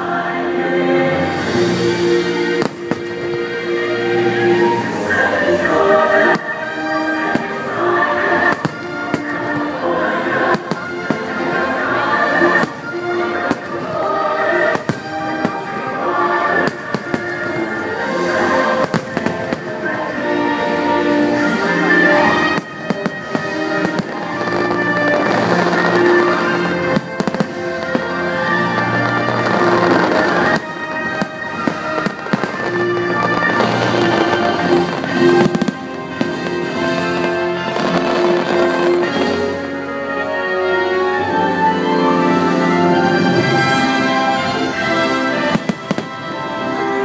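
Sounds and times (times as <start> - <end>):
show music with choral tones: 0.0 - 47.0
fireworks bursting bangs: 1.3 - 39.7, 43.2 - 47.0.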